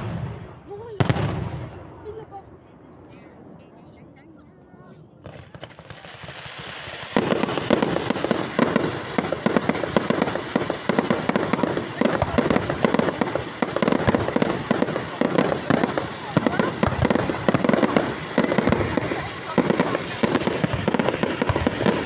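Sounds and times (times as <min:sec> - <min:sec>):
fireworks crackling and banging: 0:00.0 - 0:04.1, 0:05.2 - 0:22.0.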